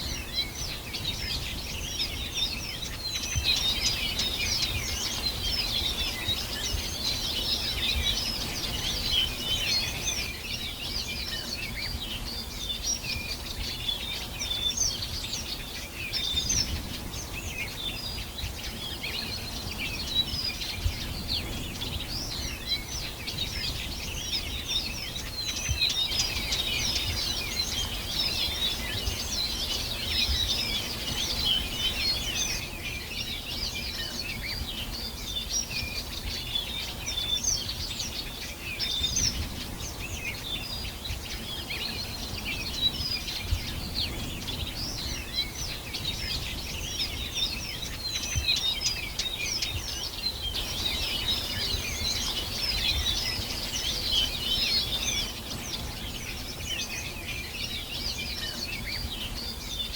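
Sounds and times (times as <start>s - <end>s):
songbirds chirping chorus: 0.0s - 59.9s.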